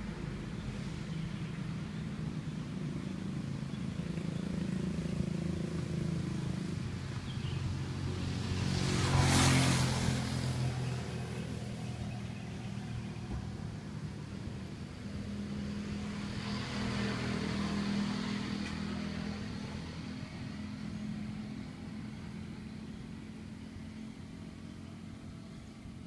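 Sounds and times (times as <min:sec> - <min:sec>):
low traffic engine hum: 0:00.0 - 0:26.0
vehicle passing close by: 0:03.2 - 0:26.0.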